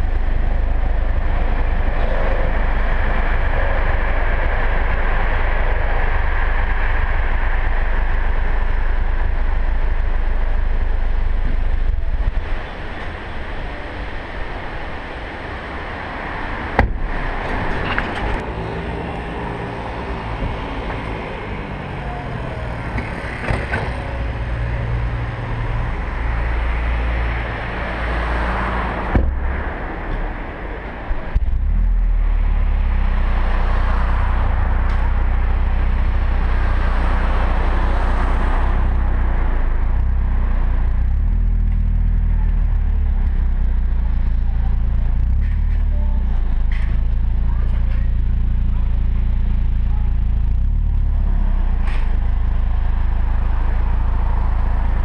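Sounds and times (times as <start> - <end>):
car engine idling: 0.0 - 55.0
car exhaust rumbling: 0.0 - 55.0.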